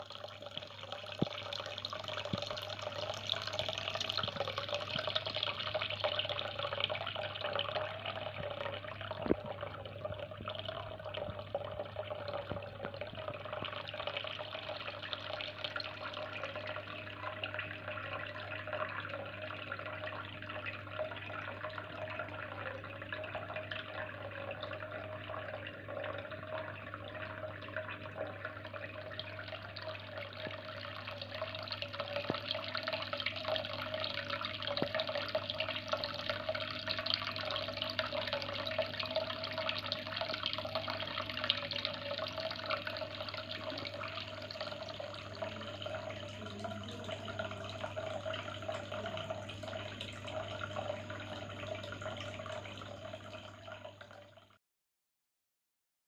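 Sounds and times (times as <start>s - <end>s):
low steady hum: 0.0s - 54.4s
water trickling and splashing: 0.0s - 54.5s.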